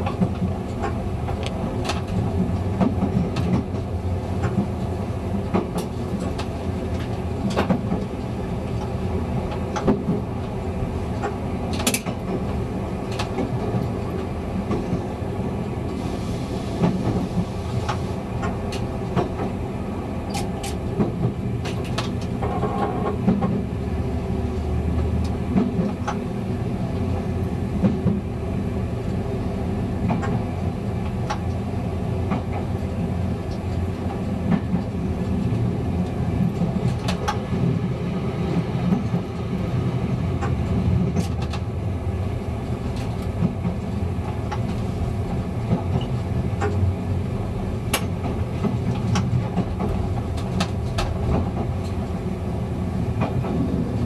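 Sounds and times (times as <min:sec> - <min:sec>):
diesel railcar drone: 0:00.0 - 0:54.0.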